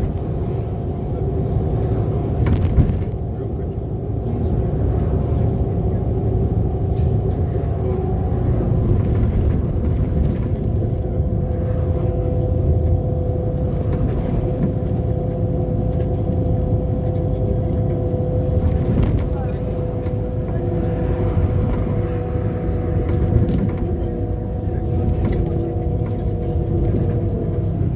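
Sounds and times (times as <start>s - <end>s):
bus engine rumble: 0.0s - 27.9s.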